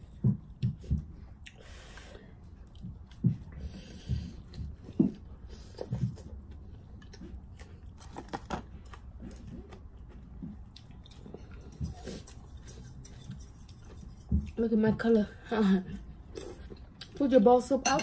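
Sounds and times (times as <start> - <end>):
person chewing and eating: 0.0 - 15.0, 15.9 - 17.2.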